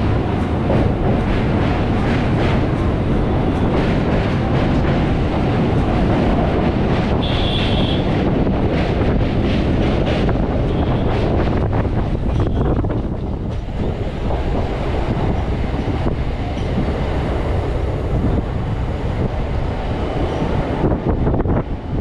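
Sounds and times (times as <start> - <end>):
train rumble: 0.0 - 22.0
wind rushing past microphone: 0.0 - 22.0.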